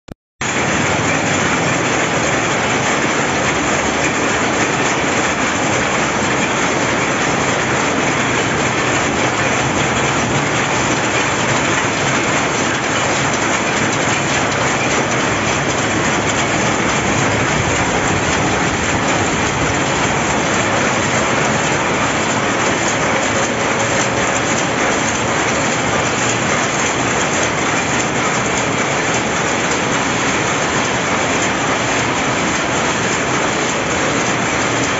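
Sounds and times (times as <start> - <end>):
power loom clattering: 0.4 - 34.9.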